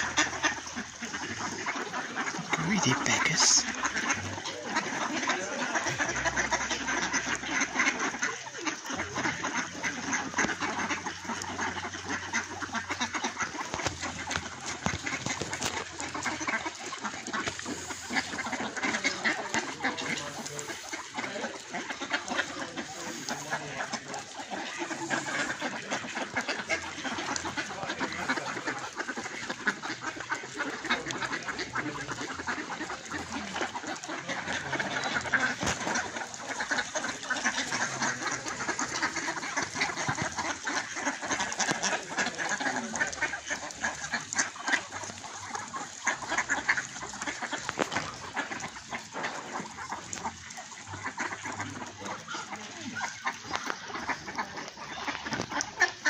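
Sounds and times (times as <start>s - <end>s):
ducks quacking: 0.0s - 56.0s.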